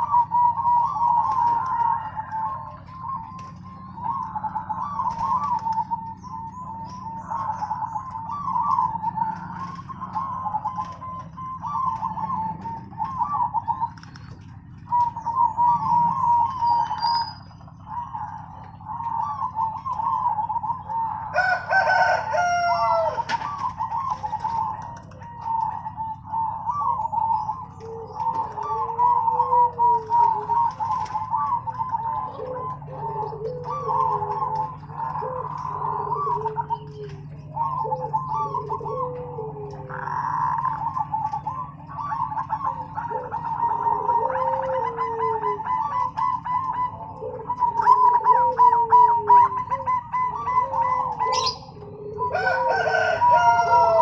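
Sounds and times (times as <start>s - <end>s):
doves cooing: 0.0s - 54.0s
loud falling bird call: 0.0s - 54.0s
low drawn-out coo: 0.0s - 54.0s.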